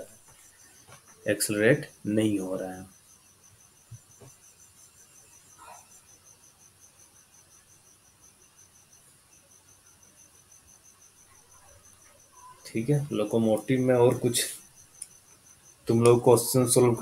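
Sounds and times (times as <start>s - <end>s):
faint cricket chirping: 0.0s - 17.0s.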